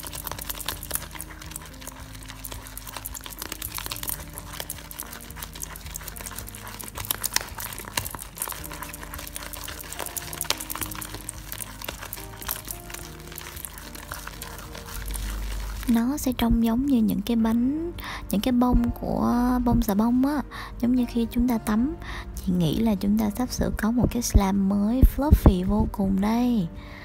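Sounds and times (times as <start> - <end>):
slime squishing and crackling: 0.0 - 26.5
soft background music: 0.0 - 27.0.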